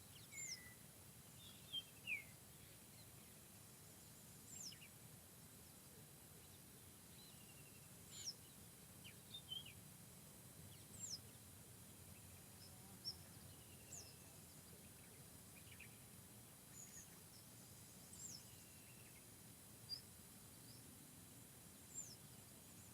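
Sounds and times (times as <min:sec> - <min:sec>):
low steady background hiss: 0:00.0 - 0:22.9.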